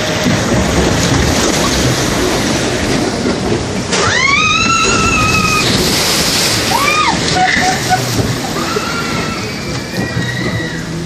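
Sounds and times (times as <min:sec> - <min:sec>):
boat splashing into water: 0:00.0 - 0:11.0
log flume boat rushing: 0:00.0 - 0:11.0.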